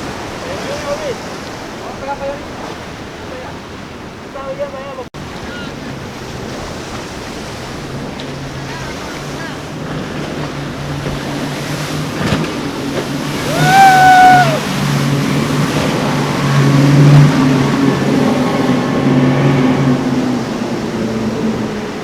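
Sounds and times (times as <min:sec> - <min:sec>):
motorboat engines running: 0:00.0 - 0:22.0.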